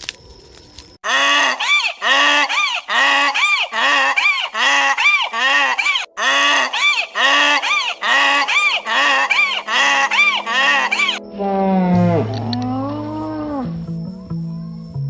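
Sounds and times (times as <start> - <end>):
donkey braying: 1.0 - 13.9.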